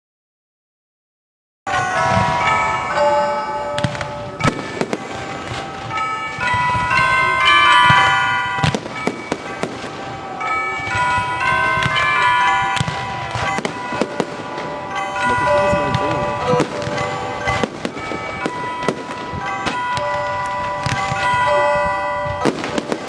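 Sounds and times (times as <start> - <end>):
bells ringing: 1.7 - 23.0
fireworks banging: 1.7 - 23.0.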